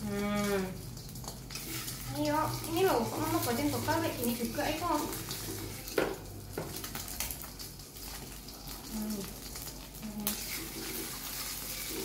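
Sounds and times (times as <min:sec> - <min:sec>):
omelette sizzling in oil: 0:00.0 - 0:12.0.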